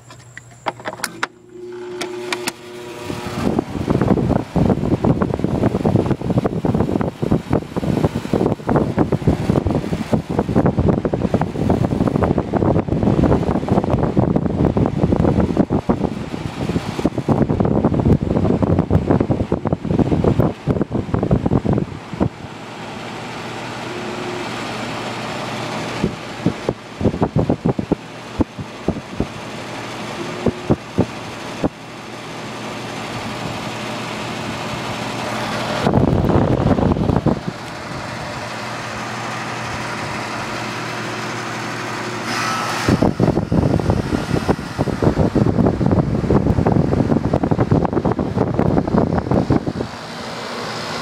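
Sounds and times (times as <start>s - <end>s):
air conditioner running: 0.0s - 51.0s
condenser fan motor humming: 0.0s - 51.0s
wind buffeting microphone: 2.9s - 22.5s, 23.5s - 31.8s, 33.1s - 41.5s, 42.8s - 50.3s.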